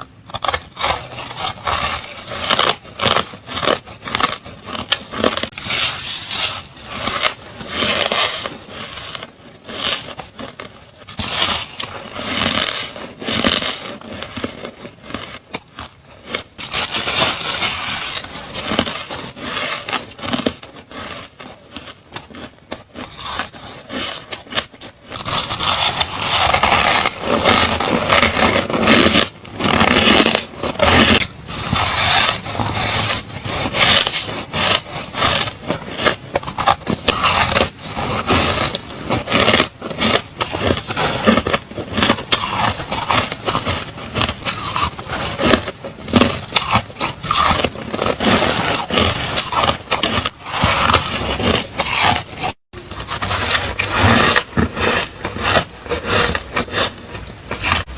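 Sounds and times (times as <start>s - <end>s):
ice crunching between teeth: 0.1s - 57.9s.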